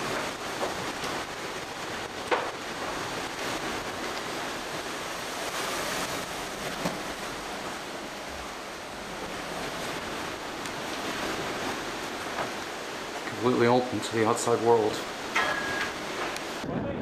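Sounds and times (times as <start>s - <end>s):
hurricane wind roaring: 0.0s - 17.0s.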